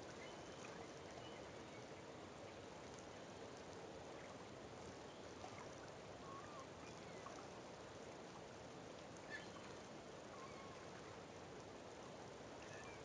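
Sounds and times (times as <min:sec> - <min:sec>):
outdoor shore ambience: 0:00.0 - 0:13.0.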